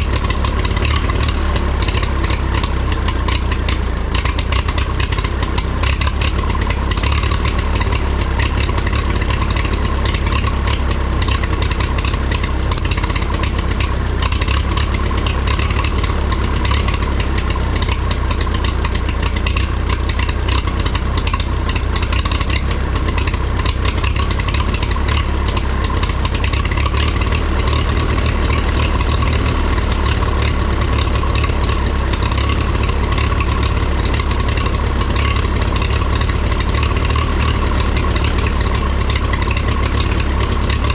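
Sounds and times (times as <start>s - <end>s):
tractor engine running steadily: 0.0s - 40.9s.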